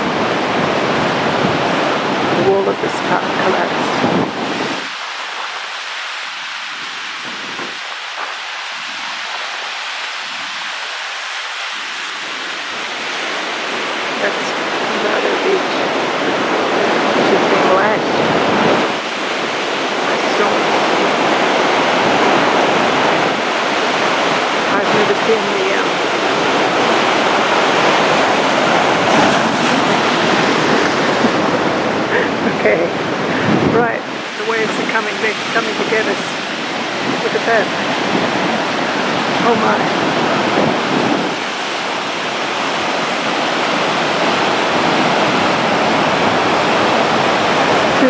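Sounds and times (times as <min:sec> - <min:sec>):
ocean surf breaking on shore: 0:00.0 - 0:48.0.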